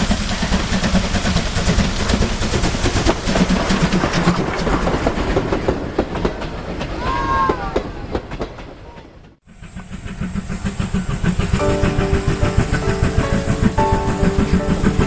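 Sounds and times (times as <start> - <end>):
rail clicks and knocks: 0.0 - 15.0
train rumble: 0.0 - 15.0.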